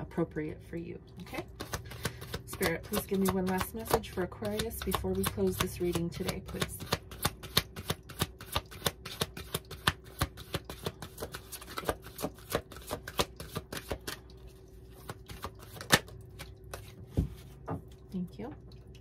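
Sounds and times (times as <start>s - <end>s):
cards being shuffled: 1.3s - 14.2s, 14.9s - 17.5s.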